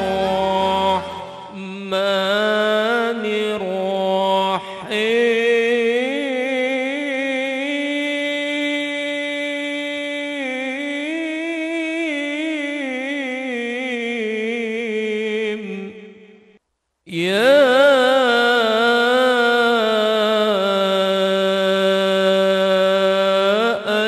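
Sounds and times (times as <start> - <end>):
man chanting: 0.0 - 24.0.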